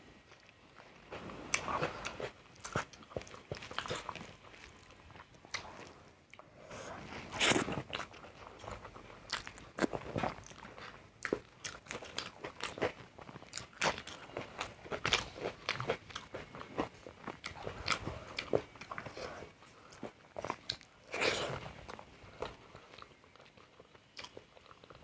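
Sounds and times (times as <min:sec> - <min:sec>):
person chewing crunchy food: 0:00.2 - 0:25.0.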